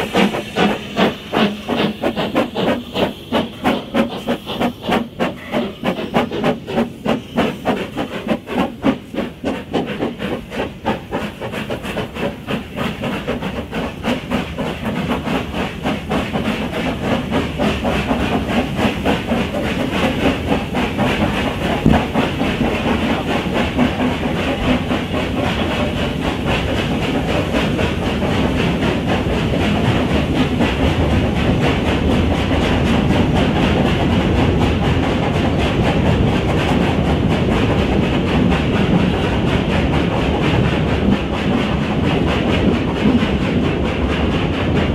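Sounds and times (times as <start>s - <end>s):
steam locomotive chuffing: 0.0s - 44.9s.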